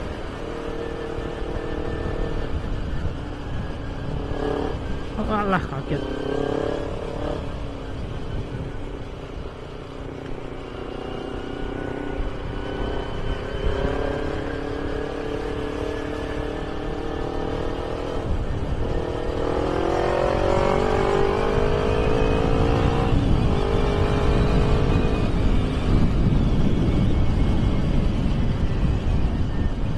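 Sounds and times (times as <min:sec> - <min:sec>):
motorcycle engine revving: 0:00.0 - 0:29.7.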